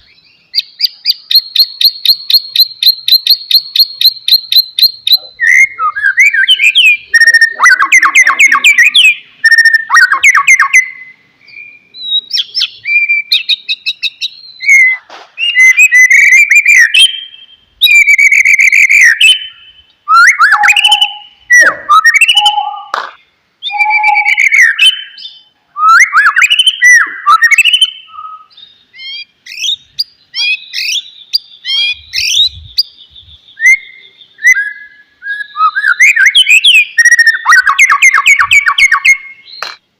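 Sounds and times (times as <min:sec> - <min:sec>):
songbird singing varied song: 0:00.0 - 0:39.8.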